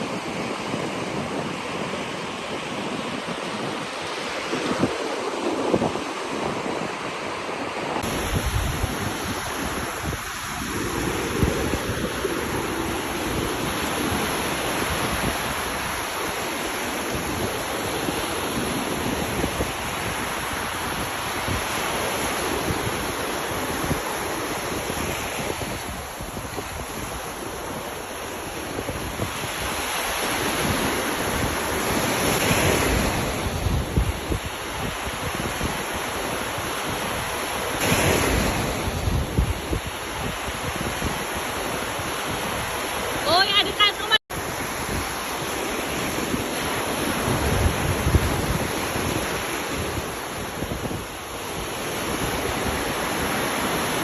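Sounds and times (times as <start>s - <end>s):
surf washing onto beach: 0.0s - 54.0s
wind buffeting microphone: 0.0s - 54.0s.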